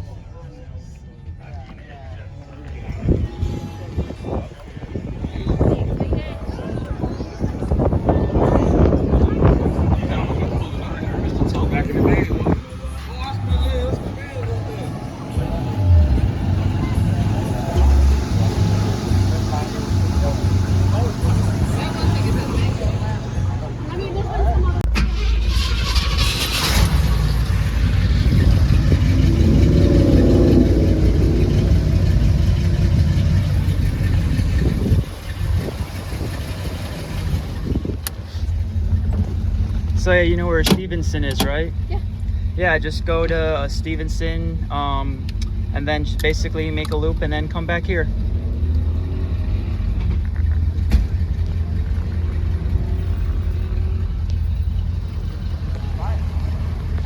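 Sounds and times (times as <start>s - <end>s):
car engine idling: 1.8s - 57.0s.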